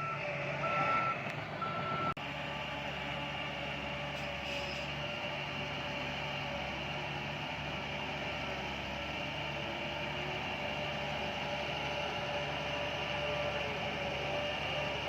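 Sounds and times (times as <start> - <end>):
diesel machinery droning: 0.0 - 15.0.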